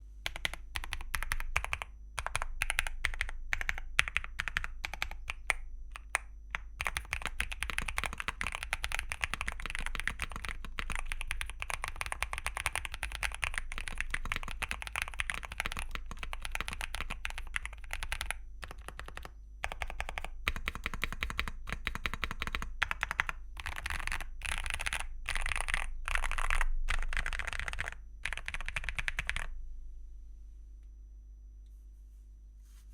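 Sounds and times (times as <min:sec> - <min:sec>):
mechanical keyboard typing: 0:00.3 - 0:29.5.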